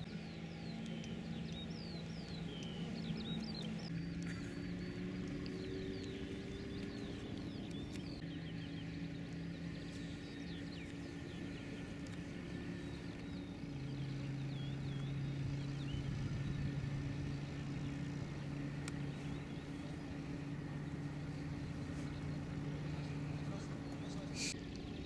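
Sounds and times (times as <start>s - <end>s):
faint bird chirps: 0.0s - 25.0s
light aircraft engine idling: 0.0s - 25.0s.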